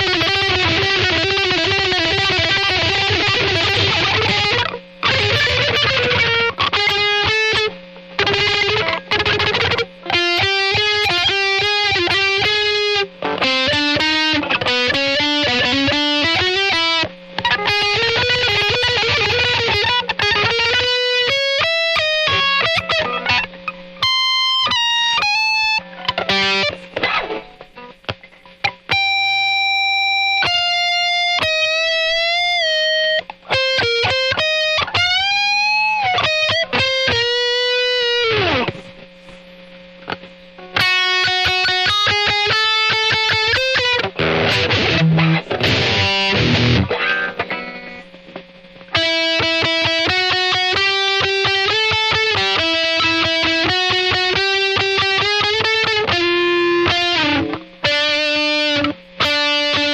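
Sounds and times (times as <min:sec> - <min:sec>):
distorted electric guitar: 0:00.0 - 0:59.9.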